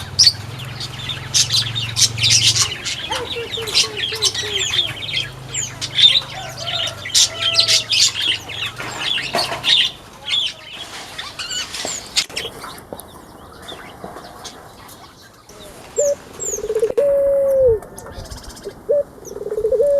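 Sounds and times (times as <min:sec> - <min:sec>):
wings flapping: 0:00.0 - 0:19.7
small birds chirping: 0:00.0 - 0:19.9.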